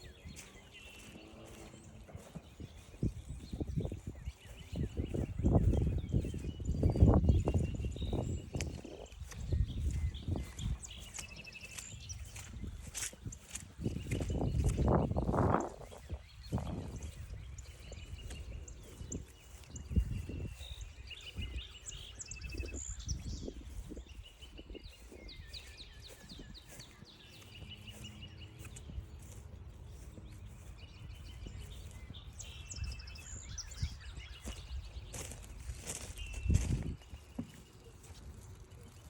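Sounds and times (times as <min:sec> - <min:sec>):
bird calls and chirps: 0:00.0 - 0:39.0
footsteps on trail: 0:00.0 - 0:39.0.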